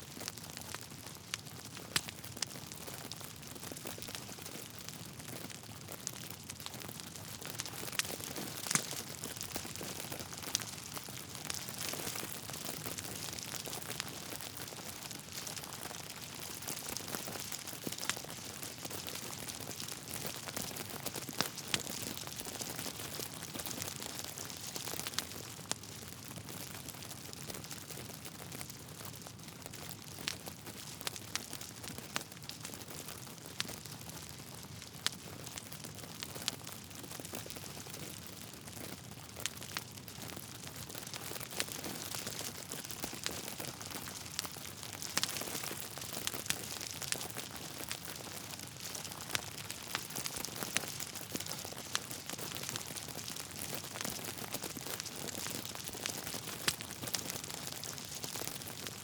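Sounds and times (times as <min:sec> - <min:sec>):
logs crackling in a fireplace: 0:00.1 - 0:59.0.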